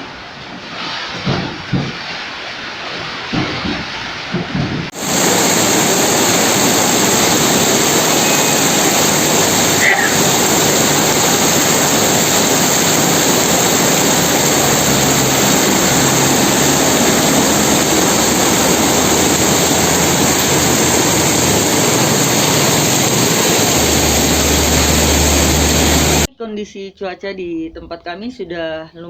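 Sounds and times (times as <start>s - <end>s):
heavy rain in strong wind: 0.0s - 26.3s.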